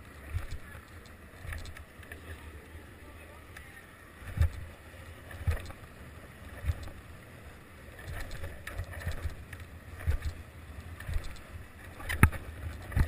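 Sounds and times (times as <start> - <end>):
longboard wheels rolling on asphalt: 0.0 - 13.0.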